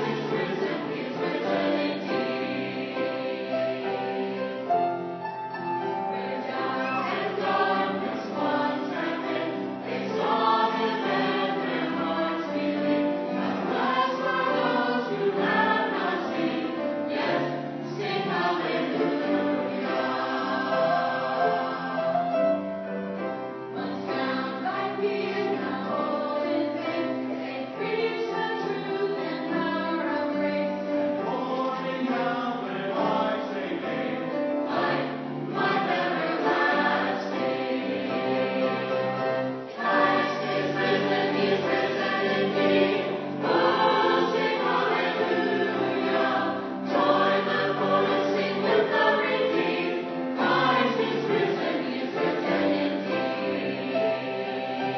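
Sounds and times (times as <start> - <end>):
mixed choir singing: 0.0 - 5.2, 5.8 - 54.9.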